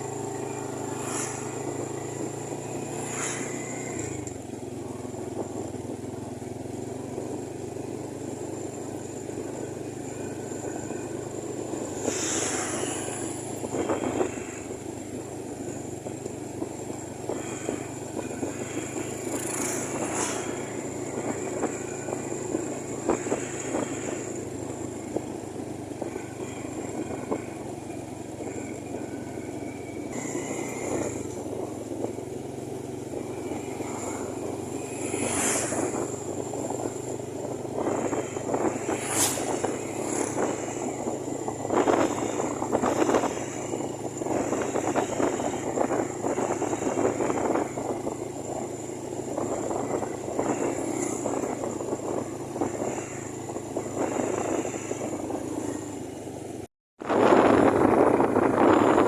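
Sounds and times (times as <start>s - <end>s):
vehicle engine and road noise: 0.0s - 59.0s
vehicles passing close by: 0.0s - 59.0s.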